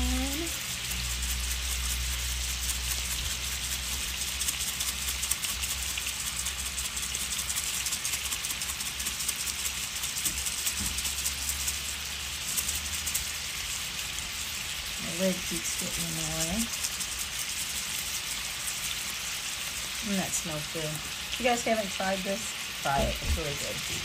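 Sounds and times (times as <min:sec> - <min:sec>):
chicken sizzling in oil: 0:00.0 - 0:24.0.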